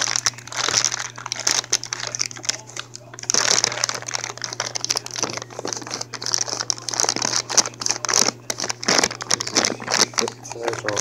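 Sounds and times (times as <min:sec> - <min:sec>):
low steady hum: 0:00.0 - 0:11.0
plastic packaging crinkling: 0:00.0 - 0:11.0
scissors cutting plastic: 0:00.0 - 0:11.0.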